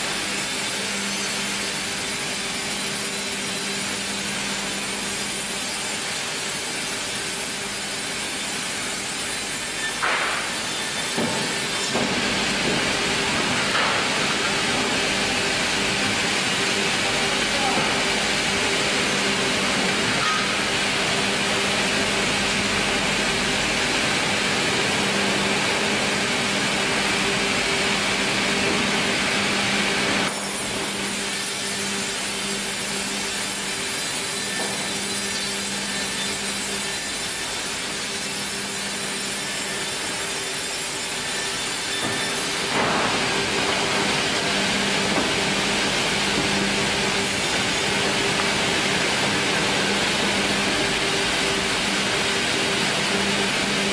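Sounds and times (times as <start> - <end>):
saw cutting wood: 0.0 - 20.9, 30.2 - 53.9
sawmill machine hum: 0.0 - 53.9.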